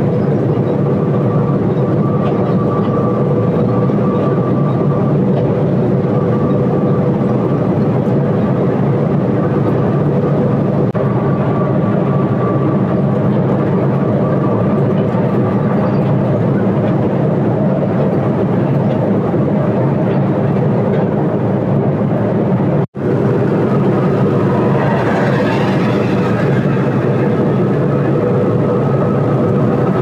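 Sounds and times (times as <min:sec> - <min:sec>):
bus engine drone: 0:00.0 - 0:30.0
tyre noise on road: 0:00.0 - 0:30.0.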